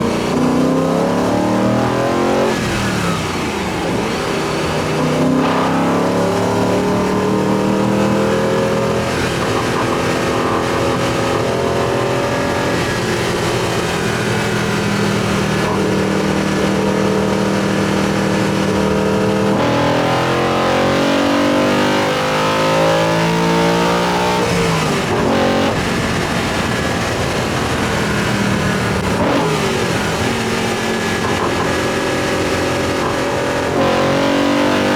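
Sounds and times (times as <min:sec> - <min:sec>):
car engine induction sound revving: 0:00.0 - 0:34.9.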